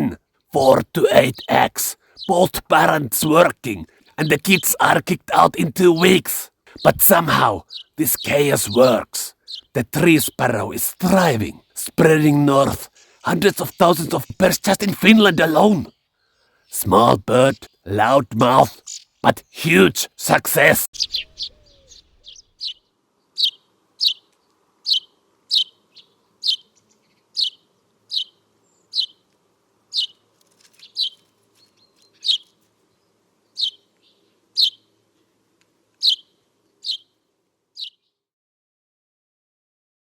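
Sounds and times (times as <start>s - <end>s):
sparrow chirping: 0.0s - 29.2s, 29.9s - 30.2s, 30.8s - 34.9s, 36.0s - 37.2s, 37.8s - 38.2s.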